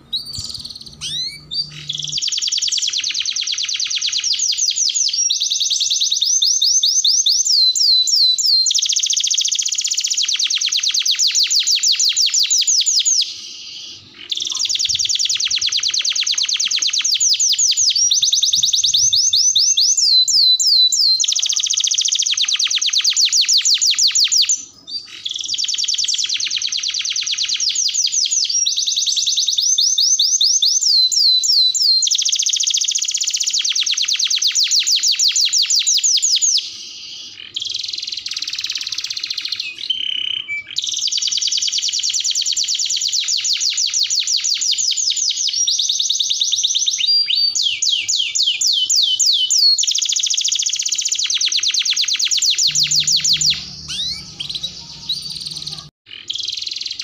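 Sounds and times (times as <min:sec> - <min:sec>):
canary singing fast trills: 0:00.0 - 0:57.0.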